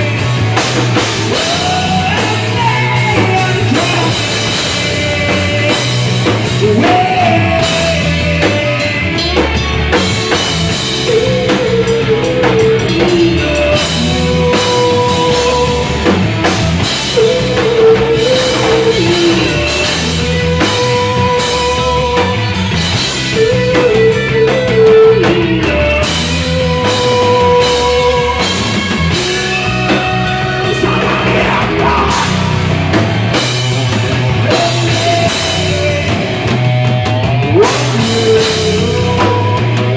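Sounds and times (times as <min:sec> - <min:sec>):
electric guitar melody bending: 0:00.0 - 0:39.9
live rock band playing: 0:00.0 - 0:39.9
steady drum beat: 0:00.0 - 0:39.9.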